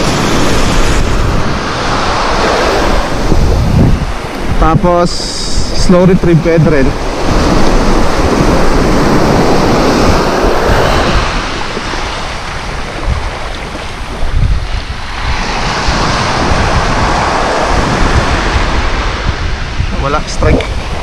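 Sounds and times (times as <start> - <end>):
small waves breaking on a beach: 0.0 - 21.0
wind rumbling on microphone: 0.0 - 21.0.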